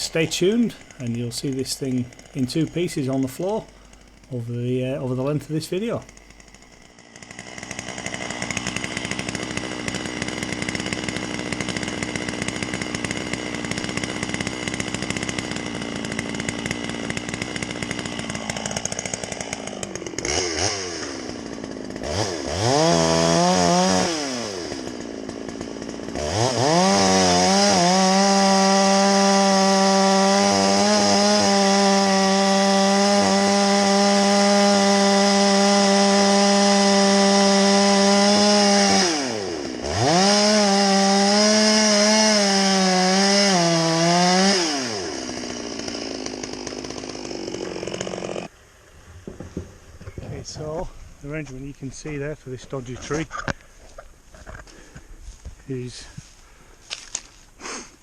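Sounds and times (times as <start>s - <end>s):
chainsaw revving: 0.0s - 48.5s.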